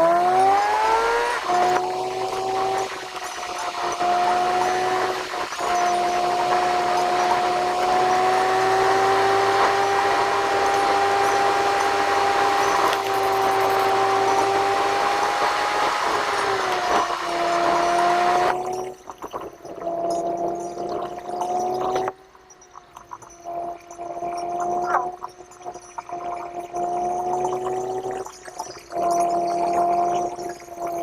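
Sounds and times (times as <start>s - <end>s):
car engine whine: 0.0s - 31.0s
road noise: 0.0s - 31.0s.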